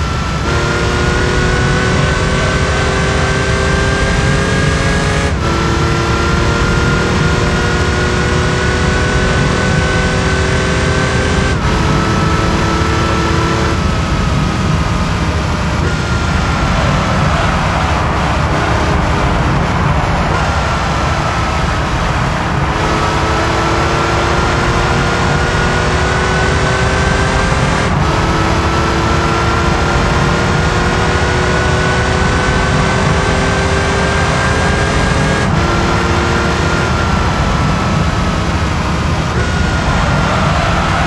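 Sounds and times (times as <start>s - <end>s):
car engine accelerating: 0.0s - 41.0s
wind and road noise: 0.0s - 41.0s.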